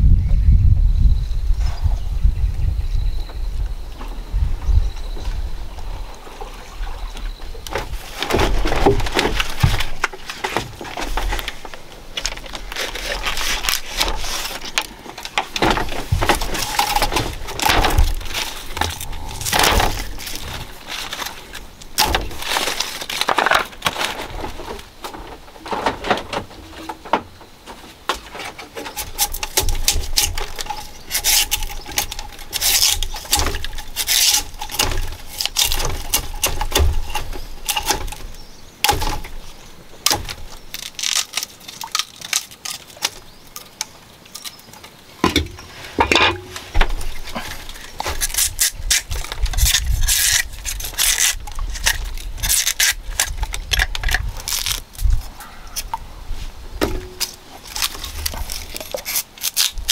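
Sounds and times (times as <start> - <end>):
bamboo husks crackling and tearing: 3.7 - 59.9.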